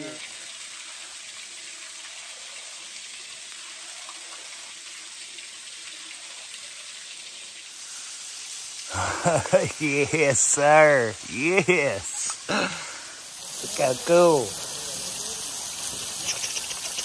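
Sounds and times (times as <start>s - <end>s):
small waterfall: 0.0s - 17.0s.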